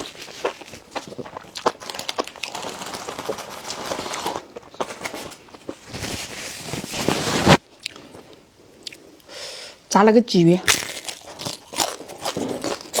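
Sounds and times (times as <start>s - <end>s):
crunching and chewing: 0.0s - 6.9s, 7.8s - 9.3s, 10.6s - 13.0s.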